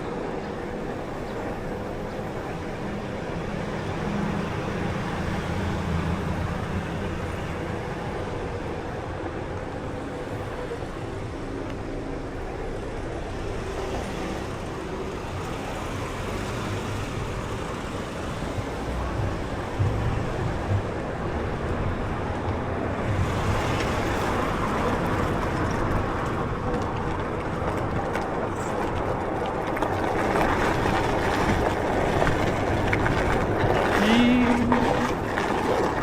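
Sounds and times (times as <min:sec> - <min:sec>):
cars passing: 0:00.0 - 0:36.0.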